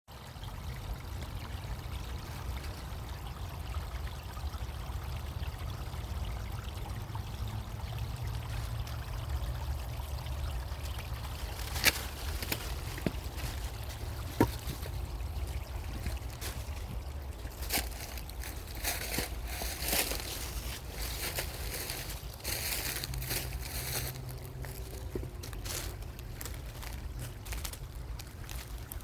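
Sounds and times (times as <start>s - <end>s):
creek water running: 0.1s - 29.0s.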